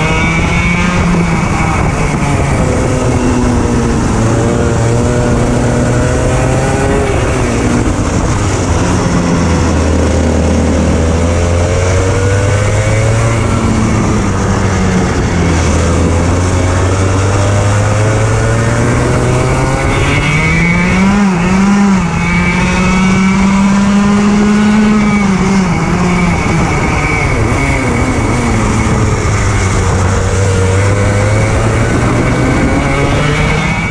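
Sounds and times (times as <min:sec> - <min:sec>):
two-stroke engine revving: 0:00.0 - 0:33.9.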